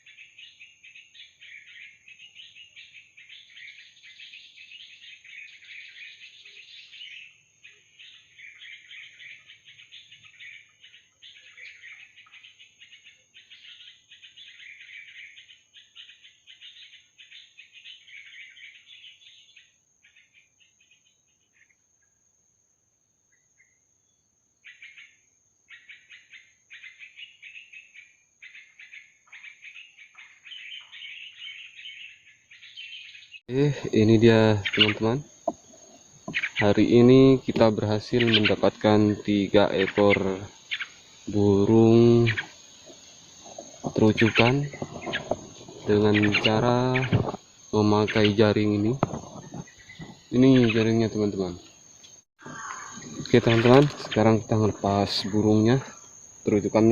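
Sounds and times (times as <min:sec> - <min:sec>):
small birds chirping: 0:00.0 - 0:22.4, 0:23.2 - 0:56.9.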